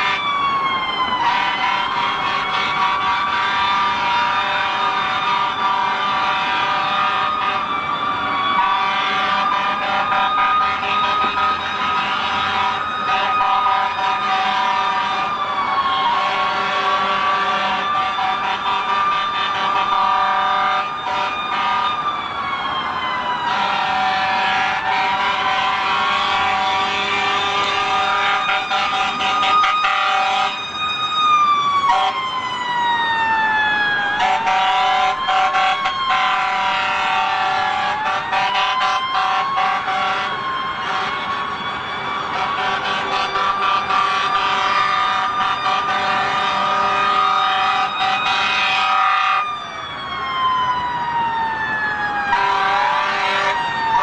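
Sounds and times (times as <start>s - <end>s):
emergency vehicle sirens wailing: 0.0s - 54.0s.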